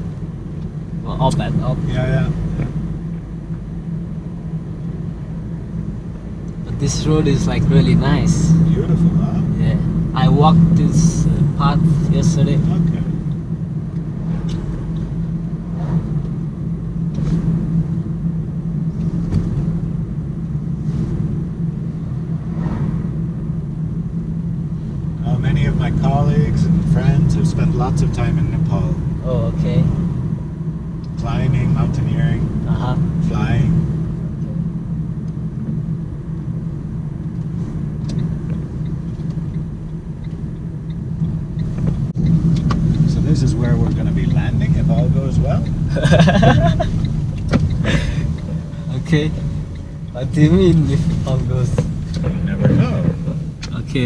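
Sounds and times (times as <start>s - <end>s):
engine and road noise in cabin: 0.0s - 54.0s.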